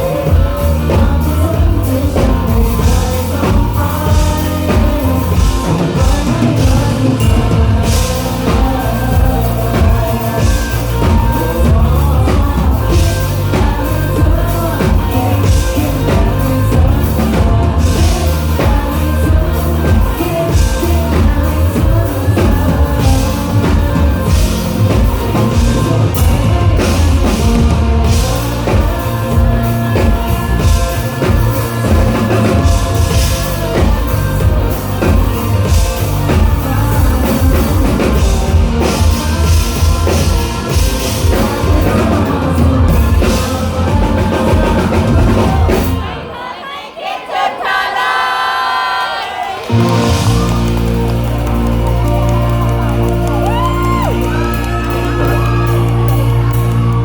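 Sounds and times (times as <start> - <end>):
rock band playing live: 0.0 - 46.3, 49.5 - 57.0
person singing: 0.0 - 57.0.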